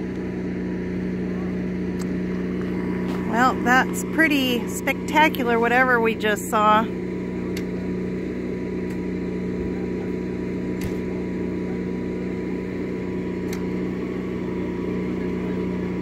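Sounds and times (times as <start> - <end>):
motor droning: 0.0 - 16.0.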